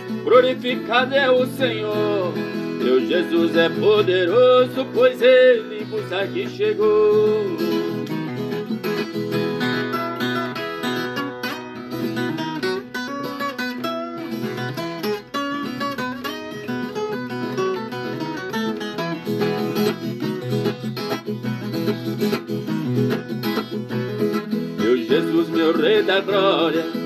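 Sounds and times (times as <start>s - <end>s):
plucked guitar playing: 0.0s - 27.0s.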